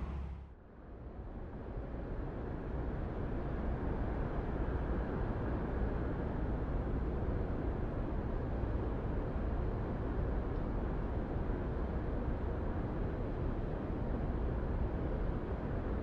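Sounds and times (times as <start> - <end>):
low rumble of city traffic: 0.0 - 16.0.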